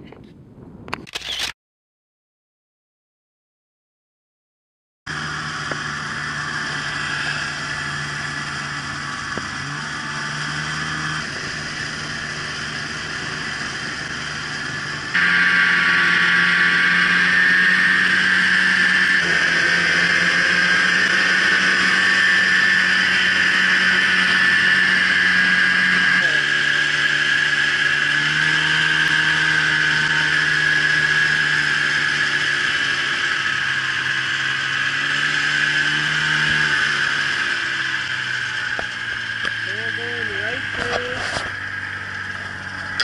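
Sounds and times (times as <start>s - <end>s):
snowmobile engine running: 5.1s - 43.0s.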